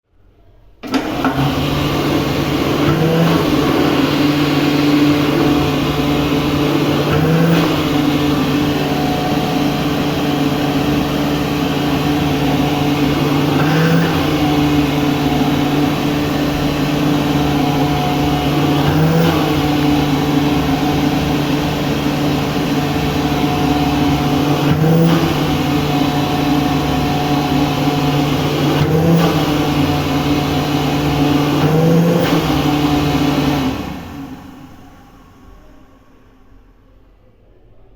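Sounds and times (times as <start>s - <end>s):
electric dryer running: 0.8s - 36.1s.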